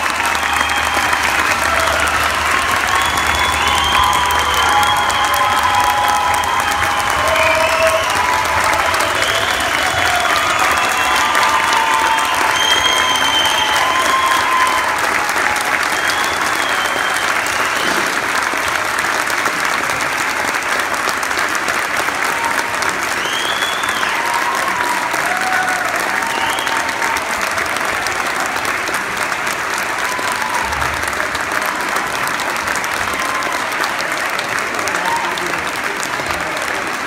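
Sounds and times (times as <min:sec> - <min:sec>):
audience applauding: 0:00.0 - 0:37.0
people whooping and cheering: 0:00.0 - 0:37.0.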